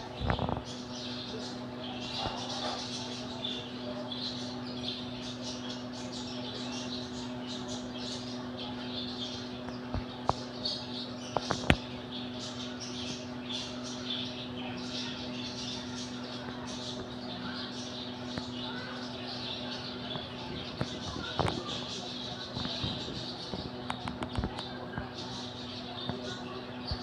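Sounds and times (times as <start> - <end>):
birds chirping: 0.0 - 27.0
steady low hum: 0.0 - 27.0.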